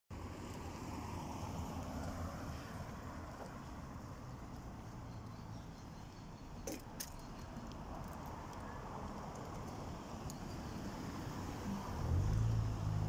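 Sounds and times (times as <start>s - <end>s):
distant traffic rumble: 0.1s - 13.0s.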